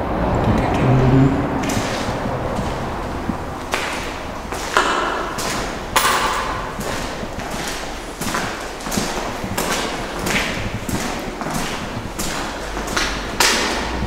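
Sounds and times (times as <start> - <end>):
steady low rumble: 0.0 - 14.0
footsteps scuffing on grit: 1.6 - 13.8.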